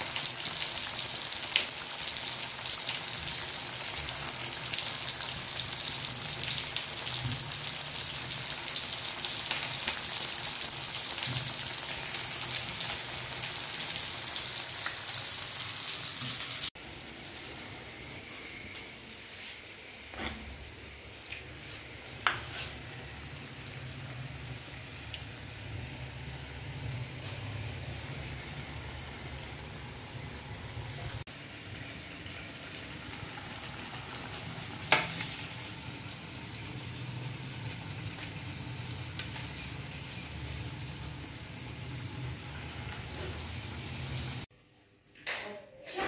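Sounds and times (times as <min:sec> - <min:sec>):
oil sizzling in a wok: 0:00.0 - 0:44.5.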